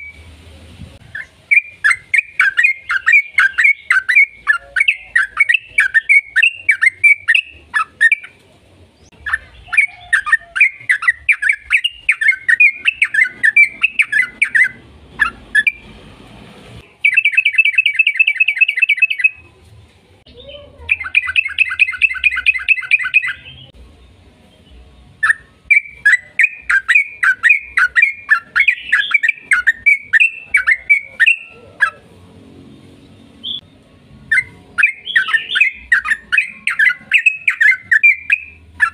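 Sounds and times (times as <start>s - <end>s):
bulbul singing chattering notes: 1.0s - 8.4s, 9.0s - 15.9s, 16.8s - 19.5s, 20.9s - 24.2s, 25.1s - 32.0s, 33.3s - 38.9s.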